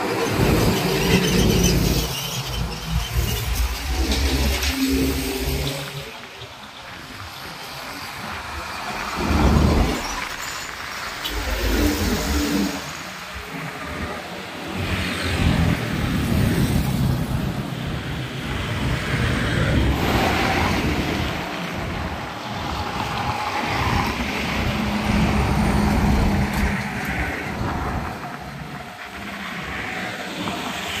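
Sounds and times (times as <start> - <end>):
cars and trucks driving past: 0.0 - 31.0.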